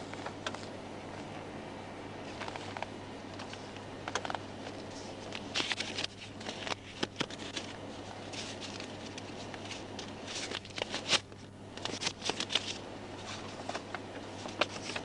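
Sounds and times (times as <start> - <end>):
low hum inside car cabin: 0.0 - 15.0
rustles of handling things: 2.2 - 15.0.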